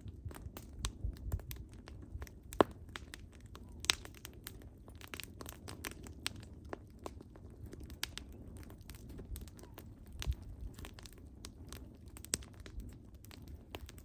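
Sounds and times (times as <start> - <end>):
firewood crackling and popping: 0.0 - 14.0
low rumble of flames: 0.0 - 14.0.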